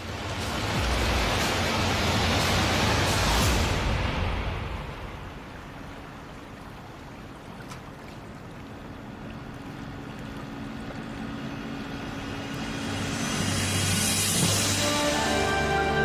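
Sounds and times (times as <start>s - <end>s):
low steady drone: 0.0s - 16.0s
sea water rushing around raft: 0.0s - 16.0s.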